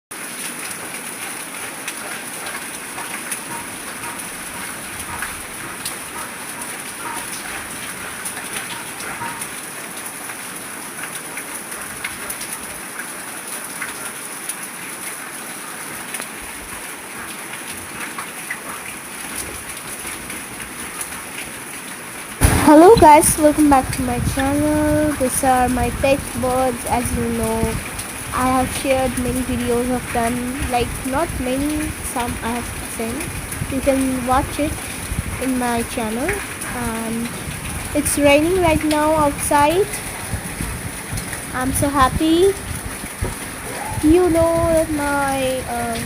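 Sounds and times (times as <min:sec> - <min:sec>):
raindrops tapping on surfaces: 0:00.1 - 0:46.0
steady rain falling: 0:00.1 - 0:46.0.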